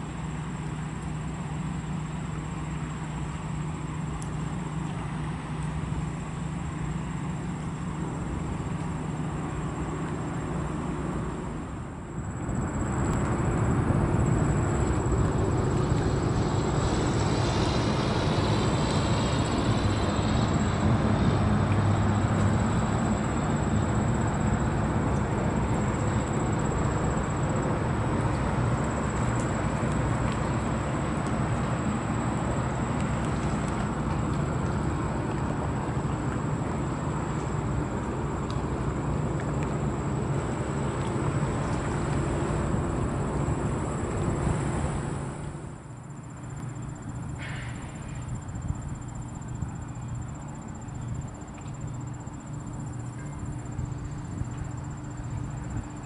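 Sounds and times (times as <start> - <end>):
boat diesel engines droning: 0.0 - 56.0.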